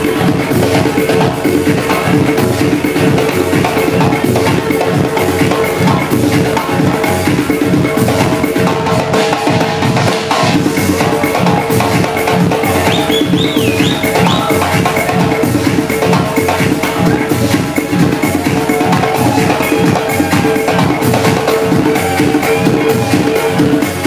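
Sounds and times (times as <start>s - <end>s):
hand drum rhythm: 0.0s - 24.0s
loud club music: 0.0s - 24.0s.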